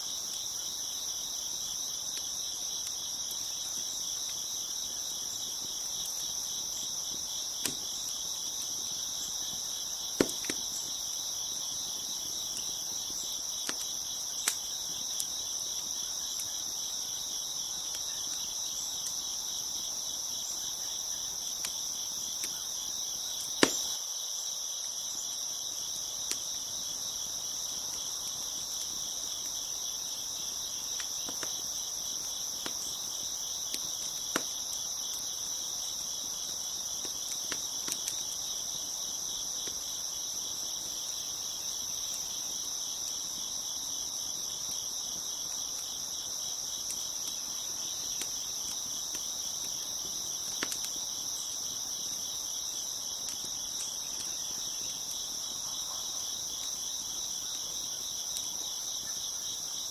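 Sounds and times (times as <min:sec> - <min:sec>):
wood fire crackling: 0:00.0 - 0:55.7, 0:56.3 - 0:59.7
crickets chirping: 0:00.0 - 0:59.9.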